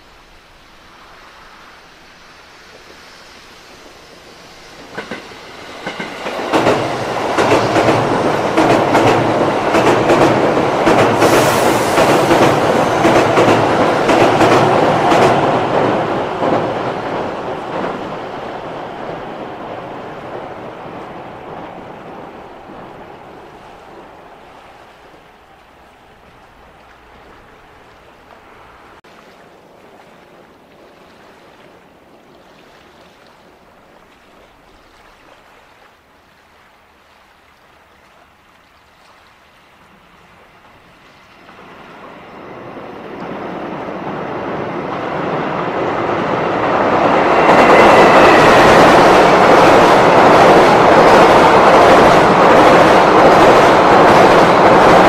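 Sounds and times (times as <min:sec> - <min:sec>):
train rumbling over bridge: 0:00.0 - 0:32.8, 0:39.1 - 0:55.0.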